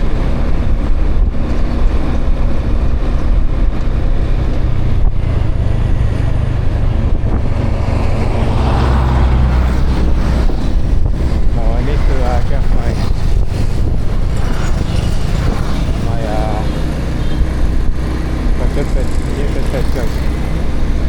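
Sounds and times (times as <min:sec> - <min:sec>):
motorbike engine rumble: 0:00.0 - 0:21.0
road noise: 0:00.0 - 0:21.0
wind rushing over microphone: 0:00.0 - 0:21.0.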